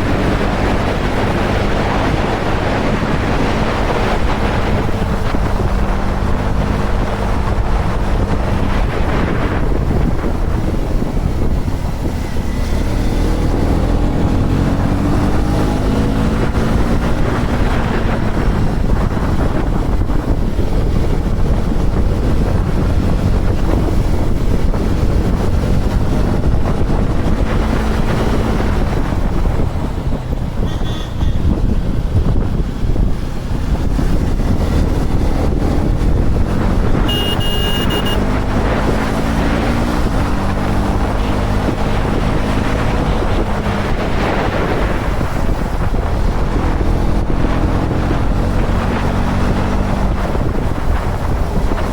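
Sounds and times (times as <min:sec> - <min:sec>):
motorcycle engine running: 0:00.0 - 0:51.9
wind rumble on microphone: 0:00.0 - 0:51.9.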